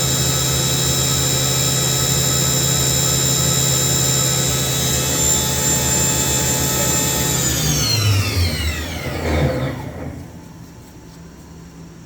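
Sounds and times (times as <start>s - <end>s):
machine spindle high-pitched whine: 0.0s - 10.3s.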